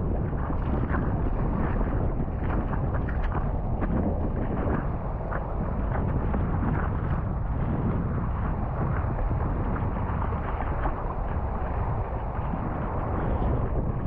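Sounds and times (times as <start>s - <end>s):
wind buffeting microphone: 0.0s - 14.0s
small waves washing: 0.1s - 14.0s.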